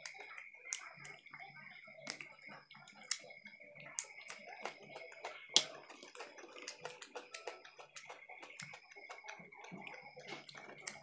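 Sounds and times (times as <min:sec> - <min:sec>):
people chewing and lip-smacking: 0:00.0 - 0:11.0.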